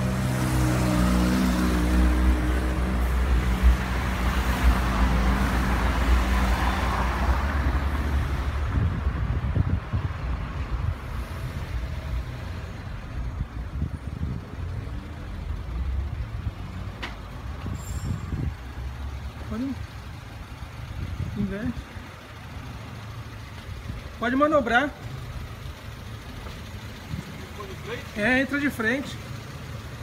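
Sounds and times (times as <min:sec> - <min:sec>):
low engine rumble: 0:01.8 - 0:30.0.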